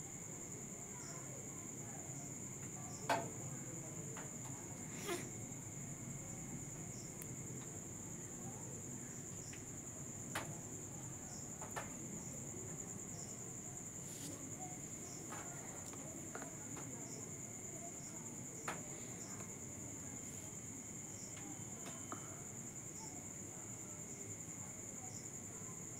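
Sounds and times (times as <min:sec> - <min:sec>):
crickets trilling: 0:00.0 - 0:25.9.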